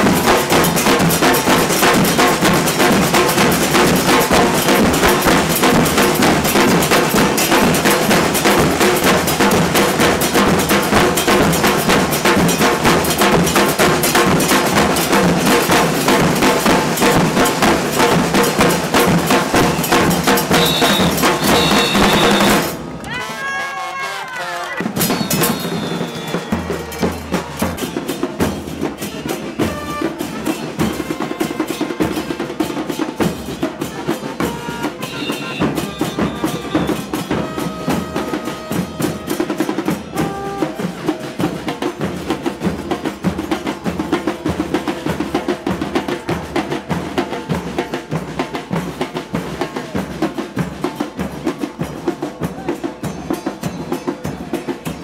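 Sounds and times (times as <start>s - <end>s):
drum section playing fast beat: 0.0s - 55.0s.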